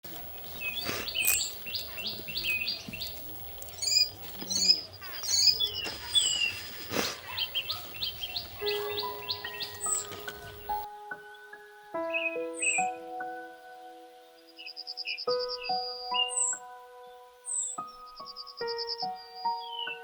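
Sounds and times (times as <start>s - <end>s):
birds chirping rapidly: 0.1s - 10.9s, 12.0s - 13.0s, 13.8s - 20.0s.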